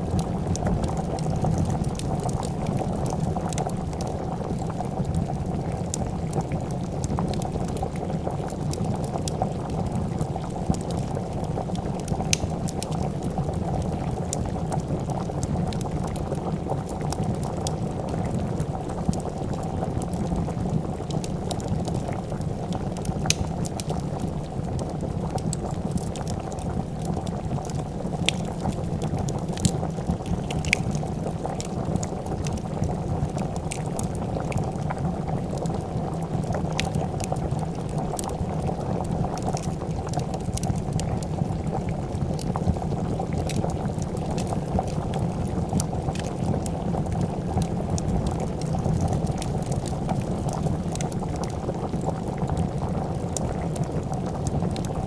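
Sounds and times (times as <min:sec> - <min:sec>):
soup bubbling in a pot: 0:00.0 - 0:55.0
wood fire crackling: 0:00.0 - 0:55.0.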